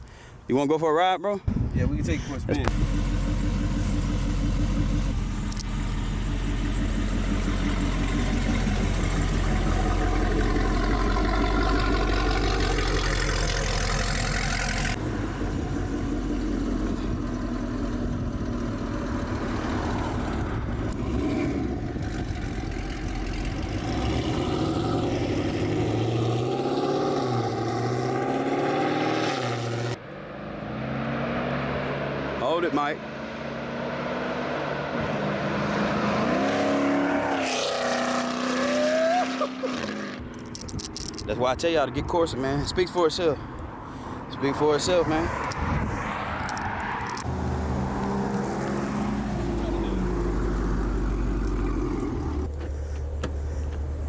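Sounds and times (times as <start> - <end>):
car engine accelerating: 2.4 - 41.1, 43.5 - 54.0.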